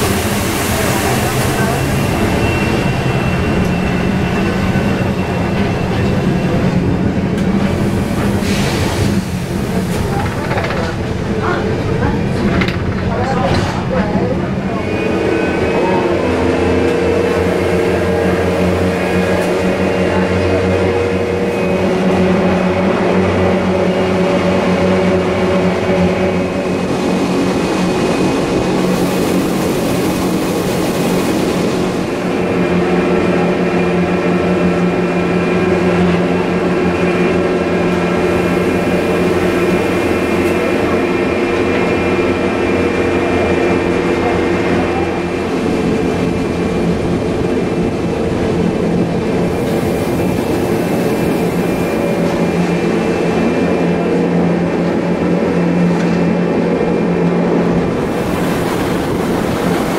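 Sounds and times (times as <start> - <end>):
electric train motors humming: 0.0 - 59.9
wheels running on rail: 0.0 - 59.9.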